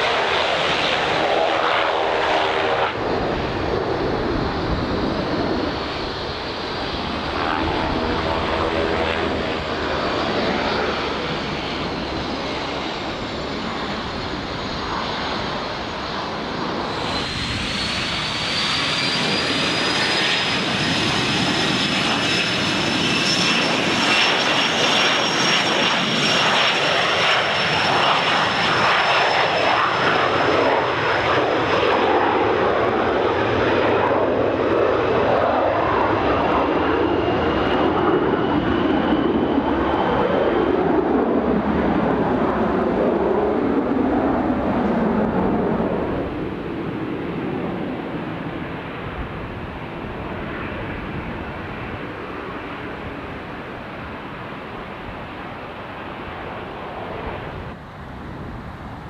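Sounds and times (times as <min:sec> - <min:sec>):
jet engine whine: 0:00.0 - 0:59.0
lower jet engine whine: 0:00.0 - 0:59.0
turboprop engine droning: 0:00.0 - 0:59.0.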